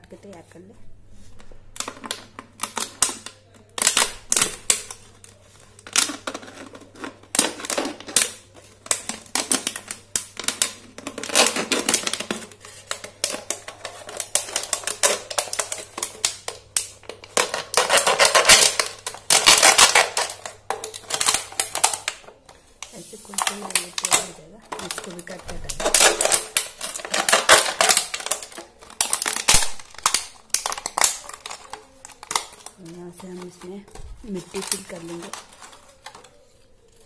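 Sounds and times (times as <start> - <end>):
plastic crackling and clicking: 1.4 - 37.0
knife cutting plastic bottle: 5.8 - 37.0.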